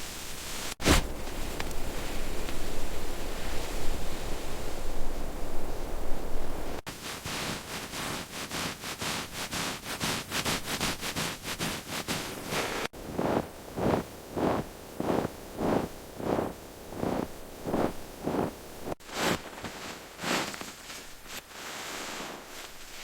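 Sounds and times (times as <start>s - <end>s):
snow crunching: 0.0s - 23.0s
snow scraping strokes: 0.0s - 23.0s.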